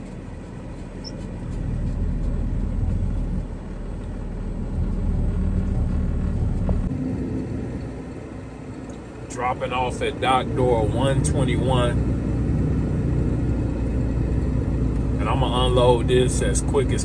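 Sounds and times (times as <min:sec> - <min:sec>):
road rumble: 0:00.0 - 0:17.0
truck engine drone: 0:00.0 - 0:17.0.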